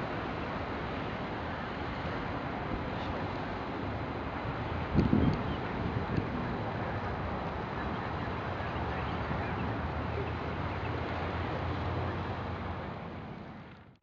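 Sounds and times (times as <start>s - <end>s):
distant aircraft engines droning: 0.0s - 13.9s.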